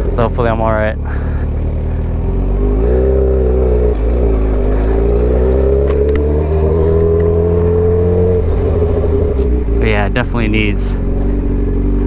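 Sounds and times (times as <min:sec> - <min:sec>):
low rumble: 0:00.0 - 0:12.0
motorcycle engine running: 0:00.0 - 0:12.0.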